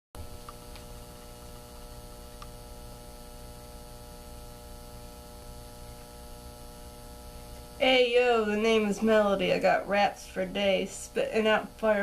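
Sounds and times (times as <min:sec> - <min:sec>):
electrical hum: 0:00.2 - 0:12.0
microphone hiss: 0:00.2 - 0:12.0.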